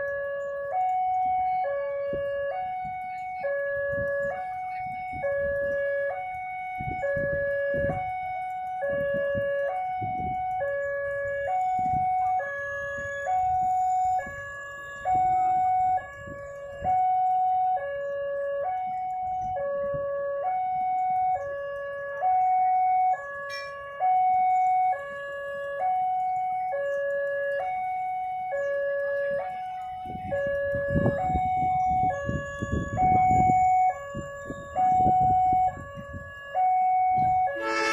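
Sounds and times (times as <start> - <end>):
two-tone electronic warning chime: 0.0 - 37.9.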